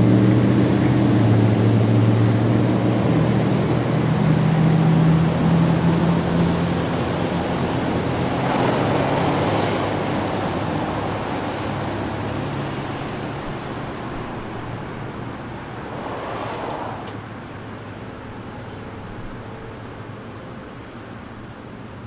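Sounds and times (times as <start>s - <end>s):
cars passing on a road: 0.0s - 22.0s.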